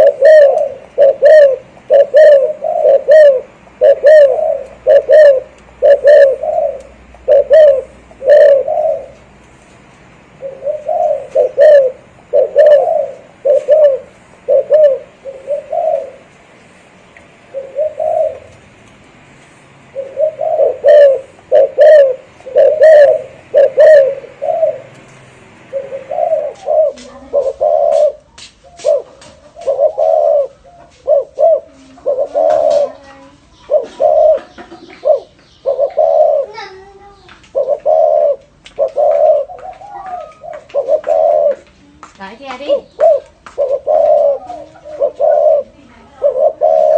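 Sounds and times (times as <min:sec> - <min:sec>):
dove cooing: 0:00.0 - 0:09.4, 0:10.4 - 0:16.5, 0:17.4 - 0:18.8, 0:19.9 - 0:46.9.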